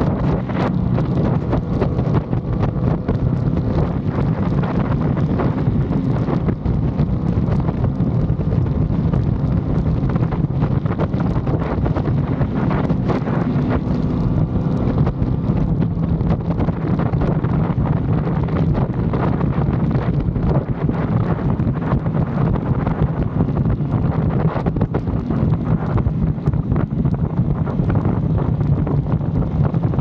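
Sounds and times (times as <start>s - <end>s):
motorcycle engine running steadily: 0.0s - 30.0s
wind buffeting microphone: 0.0s - 30.0s.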